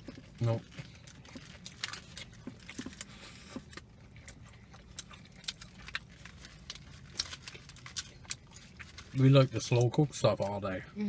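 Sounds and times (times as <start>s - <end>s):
people chewing food: 0.0s - 10.9s.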